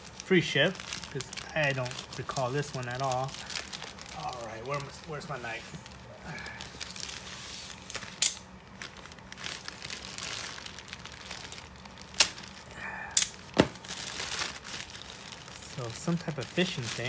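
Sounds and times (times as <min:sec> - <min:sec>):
plastic mailer crinkling: 0:00.0 - 0:12.7, 0:13.3 - 0:17.0
plastic cracking: 0:00.0 - 0:17.0.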